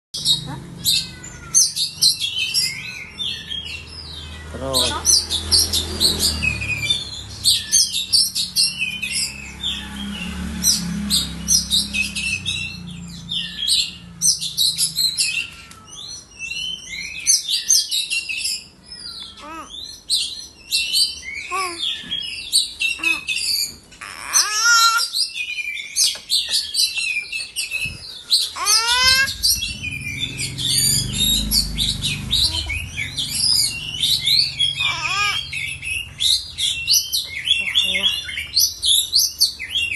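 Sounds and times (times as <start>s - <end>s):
bird song chirps and trills: 0.2s - 39.9s.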